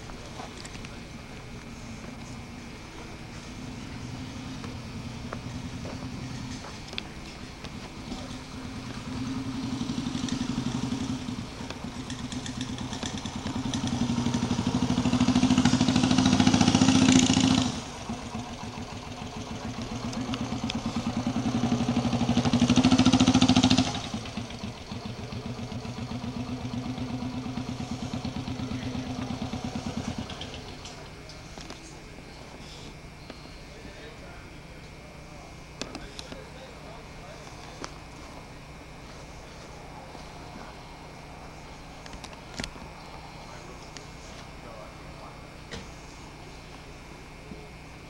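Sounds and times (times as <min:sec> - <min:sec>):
motorcycle engine idling and revving: 0:00.0 - 0:48.0.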